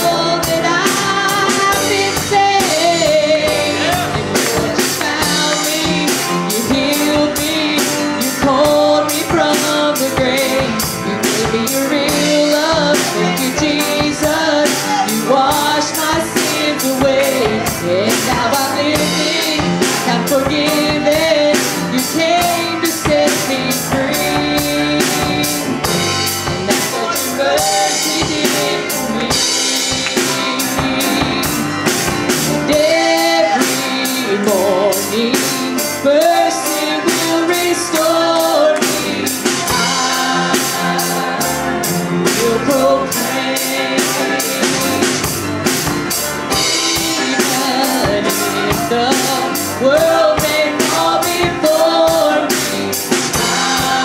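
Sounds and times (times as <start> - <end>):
drum kit with cymbals: 0.0 - 54.0
electric bass: 0.0 - 54.0
grand piano: 0.0 - 54.0
person singing with vibrato: 0.0 - 54.0.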